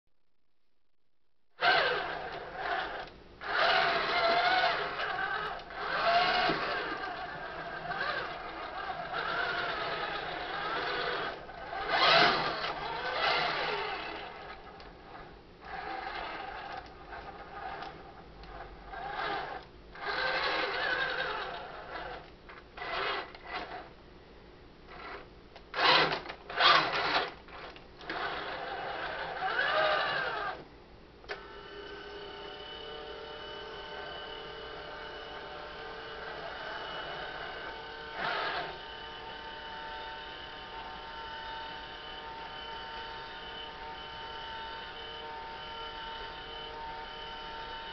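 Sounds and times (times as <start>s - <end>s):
electric motors whining: 1.6s - 23.9s, 25.8s - 30.6s, 31.3s - 47.9s.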